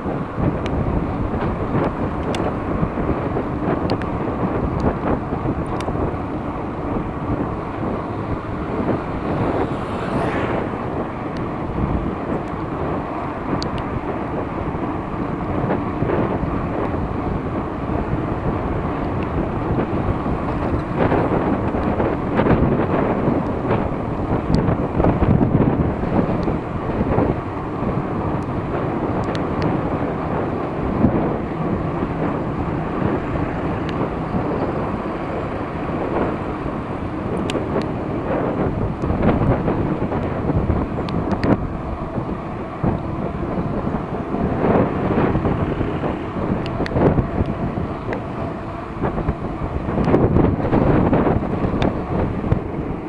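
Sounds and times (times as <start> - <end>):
bicycle tyre and road noise: 0.0 - 53.0
wind buffeting microphone: 0.0 - 53.0.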